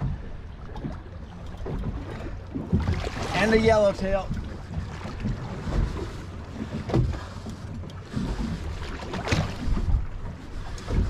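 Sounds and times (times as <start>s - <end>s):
waves lapping against hull: 0.0s - 11.0s
wind buffeting microphone: 0.0s - 11.0s.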